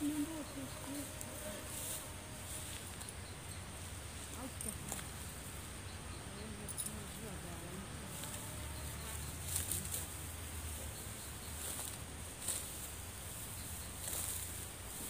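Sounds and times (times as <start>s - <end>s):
insects buzzing: 0.0s - 15.0s
low steady rumble: 0.0s - 15.0s.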